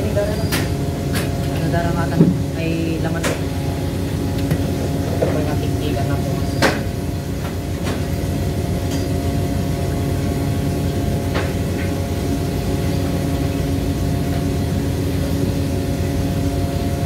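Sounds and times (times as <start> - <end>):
heavy engine droning: 0.0 - 17.0.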